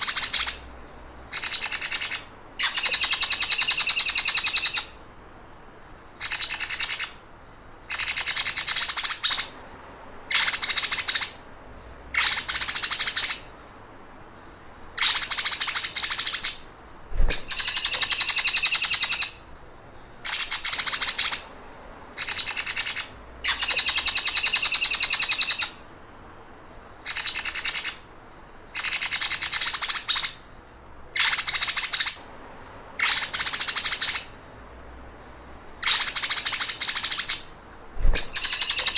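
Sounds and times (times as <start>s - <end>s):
songbird rattling trill: 0.0s - 5.0s, 5.8s - 9.6s, 10.3s - 13.7s, 14.4s - 25.8s, 26.7s - 32.3s, 33.0s - 34.4s, 35.2s - 38.9s.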